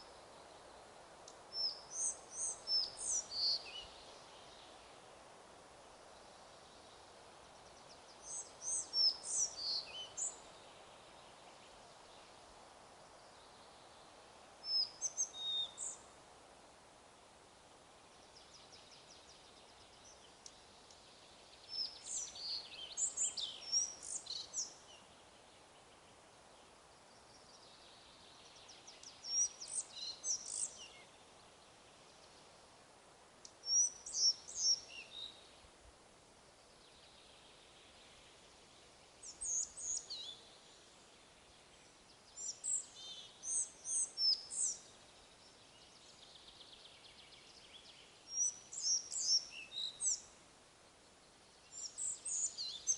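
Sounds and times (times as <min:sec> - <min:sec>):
faint wind hiss: 0:00.0 - 0:52.9
songbird chirping: 0:00.0 - 0:52.9.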